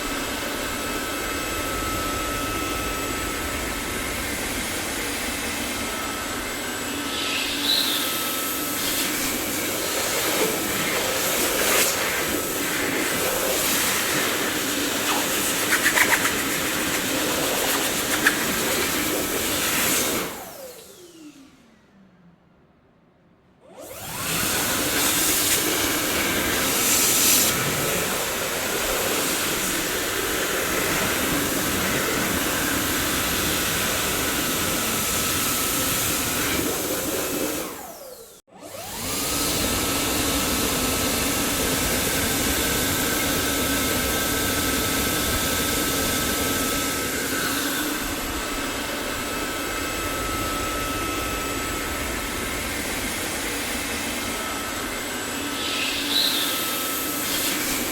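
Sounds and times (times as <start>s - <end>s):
vacuum cleaner whining: 0.0s - 22.2s, 23.6s - 57.9s.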